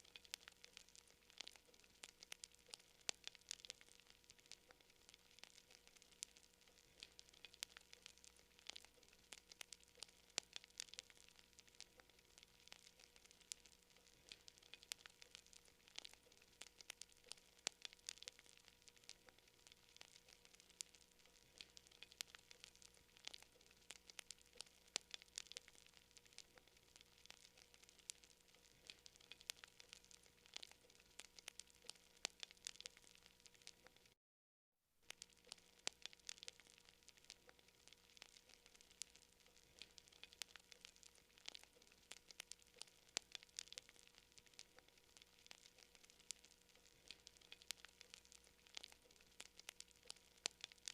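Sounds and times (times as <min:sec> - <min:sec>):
campfire crackling: 0:00.0 - 0:34.2, 0:35.0 - 0:50.9
faint steady hum: 0:00.0 - 0:34.2, 0:34.9 - 0:50.9.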